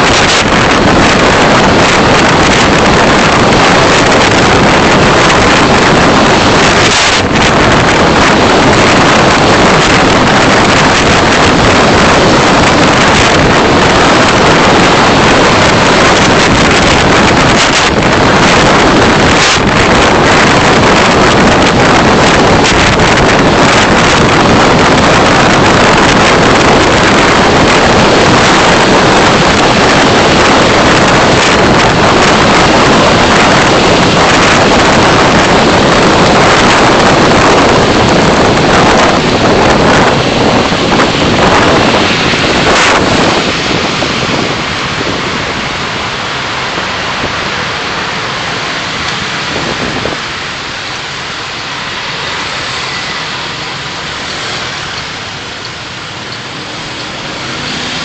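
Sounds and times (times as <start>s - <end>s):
road noise: 0.0s - 58.0s
wind rushing: 0.0s - 58.0s.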